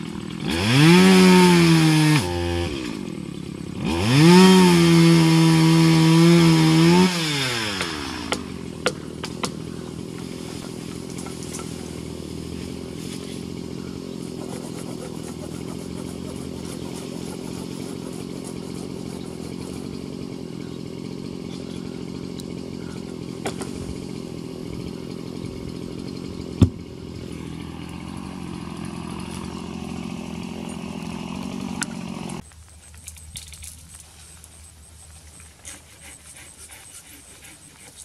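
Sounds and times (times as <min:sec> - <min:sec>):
chainsaw running: 0:00.0 - 0:32.4, 0:35.6 - 0:38.0.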